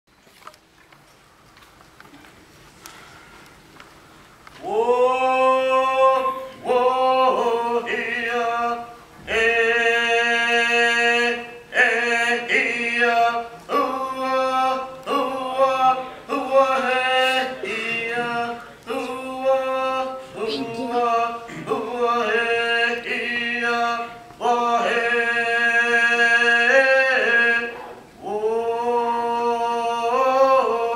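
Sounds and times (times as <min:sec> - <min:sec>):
group of people singing in unison: 0:04.6 - 0:30.9.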